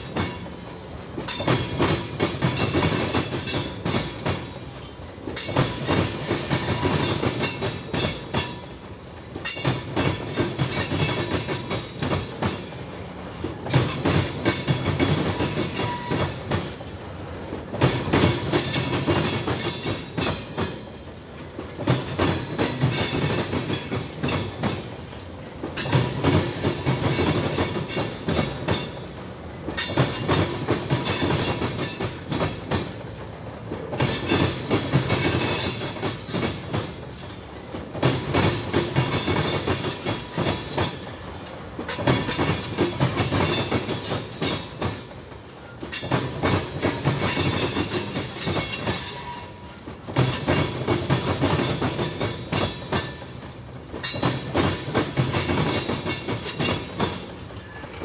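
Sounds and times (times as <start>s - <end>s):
train cars rolling: 0.0s - 58.0s
train wheels clattering over rails: 0.0s - 58.0s.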